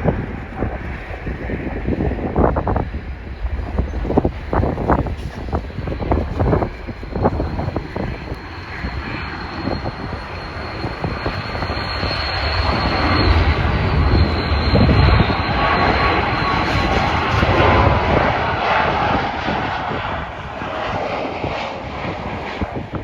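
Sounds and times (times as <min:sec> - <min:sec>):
jet airliner engines: 0:00.0 - 0:23.0
wind buffeting microphone: 0:00.0 - 0:23.0.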